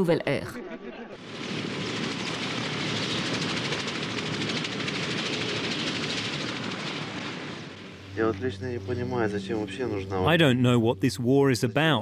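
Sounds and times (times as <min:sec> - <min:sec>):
helicopter turbine and rotor: 0:01.1 - 0:12.0
helicopter blades beating: 0:01.2 - 0:12.0.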